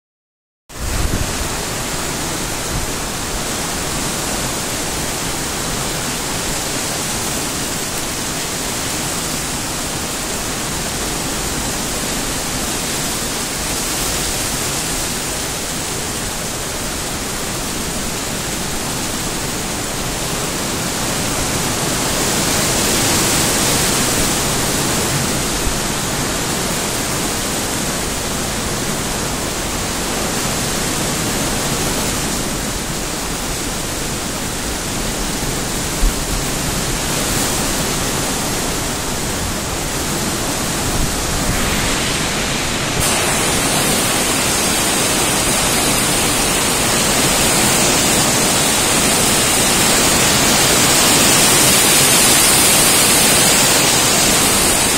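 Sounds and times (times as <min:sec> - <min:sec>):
heavy rain pouring: 0:00.7 - 0:54.9.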